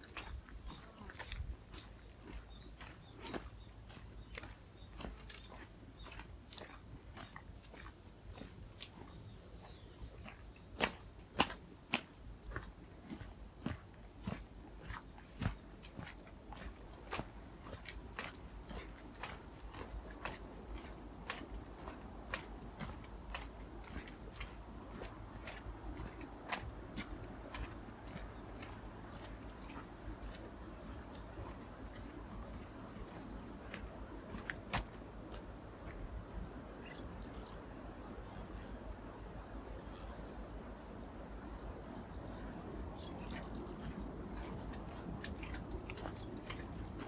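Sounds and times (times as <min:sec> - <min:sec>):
insect chorus: 0:00.0 - 0:47.0.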